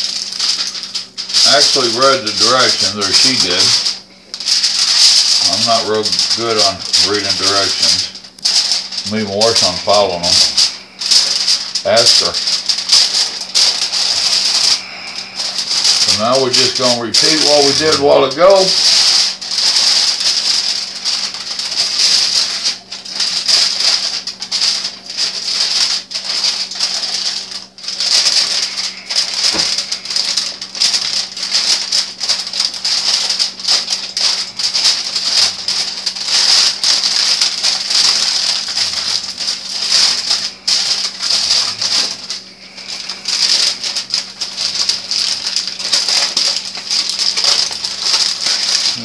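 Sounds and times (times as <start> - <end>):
aluminium foil crinkling: 0.0 - 49.0.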